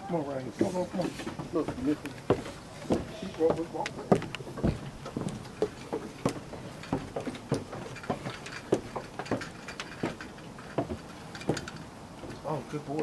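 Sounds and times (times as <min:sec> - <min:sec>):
footsteps on a trail: 0:00.1 - 0:12.6.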